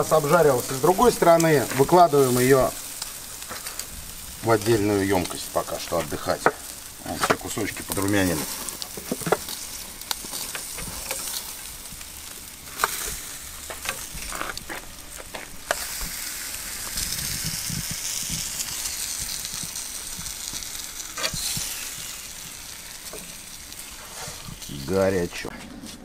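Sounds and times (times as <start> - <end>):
meat sizzling on a grill: 0.0 - 25.5.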